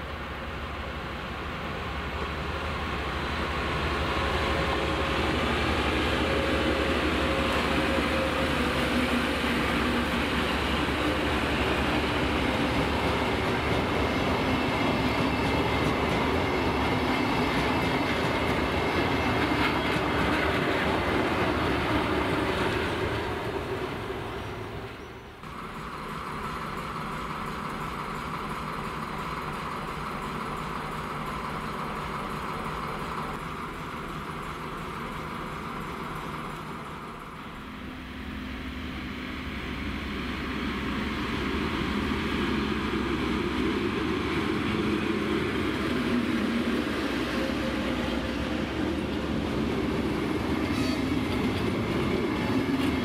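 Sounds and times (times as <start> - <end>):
approaching locomotive engine: 0.0 - 53.0
diesel locomotive humming: 0.0 - 53.0
train wheels clattering on rails: 3.8 - 37.6, 39.8 - 53.0.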